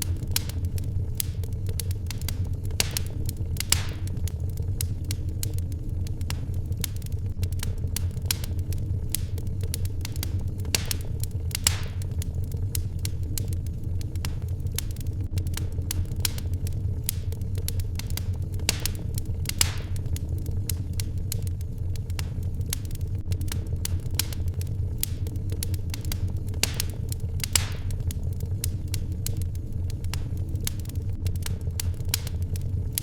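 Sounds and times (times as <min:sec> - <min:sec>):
fireplace crackling: 0:00.0 - 0:33.0.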